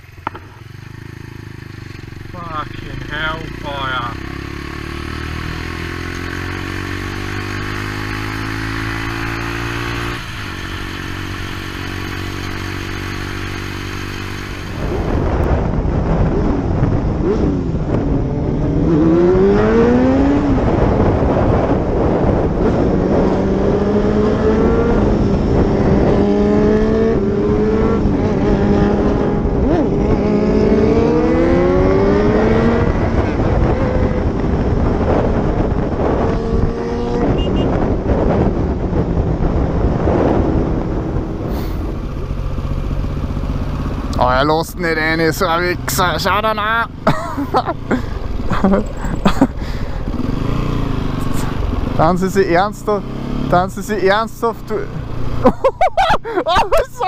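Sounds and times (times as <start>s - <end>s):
motorcycle engine accelerating: 0.0s - 57.0s
wind rush: 5.2s - 43.6s, 44.2s - 57.0s.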